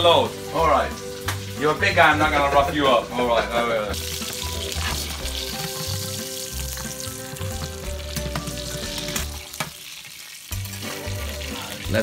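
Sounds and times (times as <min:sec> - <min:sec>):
background music: 0:00.0 - 0:12.0
chicken sizzling in a pan: 0:00.0 - 0:12.0.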